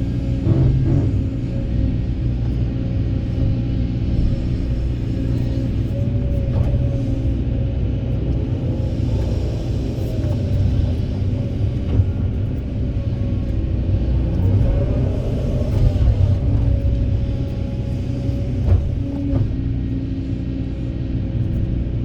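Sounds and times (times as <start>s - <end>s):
engine whine: 0.0s - 22.0s
excavator diesel engine running: 0.0s - 22.0s.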